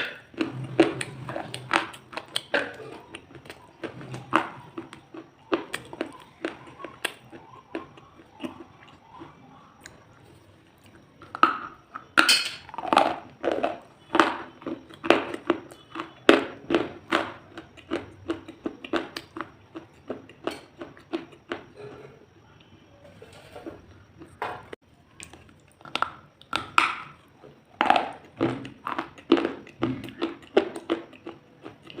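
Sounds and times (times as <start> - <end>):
crunchy food chewing: 0.0 - 32.0.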